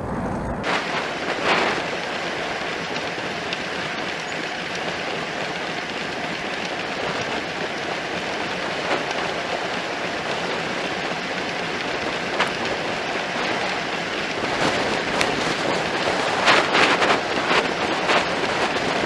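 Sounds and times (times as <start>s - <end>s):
bicycle tyres hissing on asphalt: 0.0s - 19.0s.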